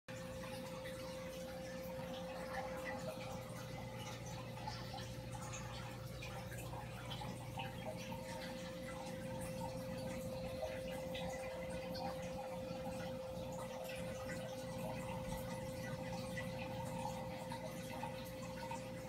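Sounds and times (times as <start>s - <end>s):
motor hum: 0.1s - 19.0s
water trickling and dripping: 0.1s - 19.0s.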